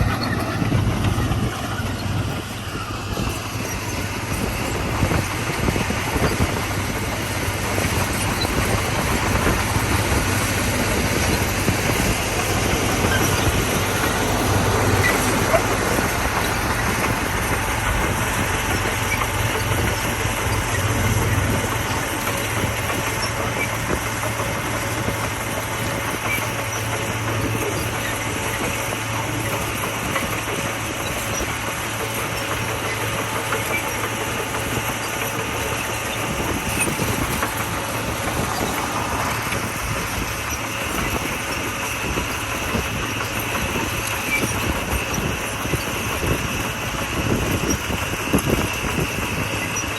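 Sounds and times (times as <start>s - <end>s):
diesel engine running: 0.0s - 49.9s
steel tracks clattering: 0.0s - 49.9s.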